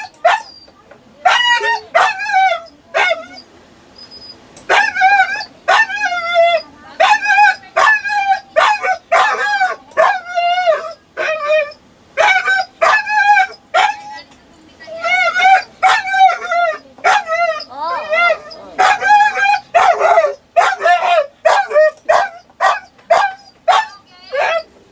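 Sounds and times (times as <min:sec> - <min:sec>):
dog yelping and whining: 0:00.0 - 0:24.8.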